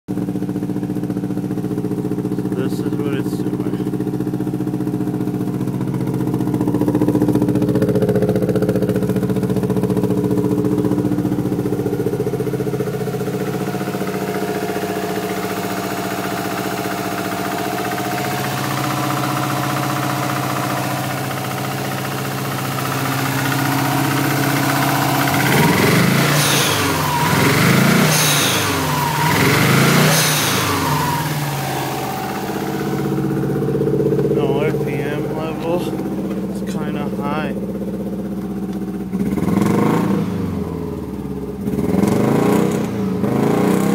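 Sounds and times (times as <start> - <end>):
misfiring car engine revving: 0.1 - 43.9.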